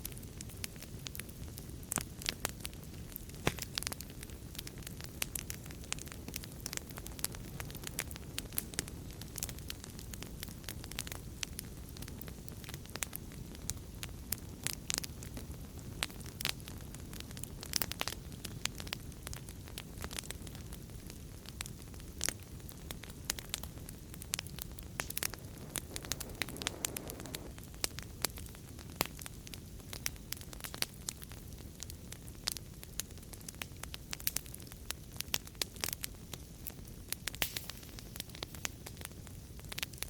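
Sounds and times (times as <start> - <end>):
low rumble of flames: 0.0 - 40.0
soft hiss of fire: 0.0 - 40.0
wood fire crackling and popping: 0.0 - 40.0.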